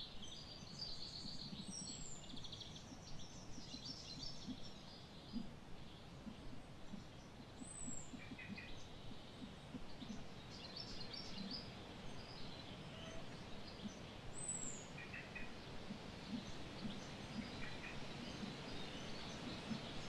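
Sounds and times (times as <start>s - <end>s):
faint outdoor background: 0.0s - 20.0s
birds chirping: 0.7s - 20.0s.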